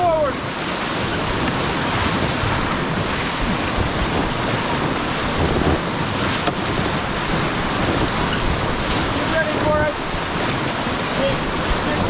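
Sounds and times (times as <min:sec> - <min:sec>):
whitewater river rushing: 0:00.0 - 0:12.0
wind buffeting microphone: 0:00.0 - 0:12.0.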